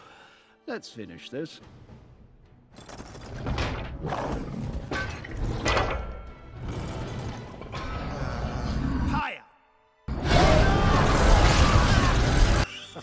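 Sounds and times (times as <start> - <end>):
film soundtrack music: 0.0 - 13.0.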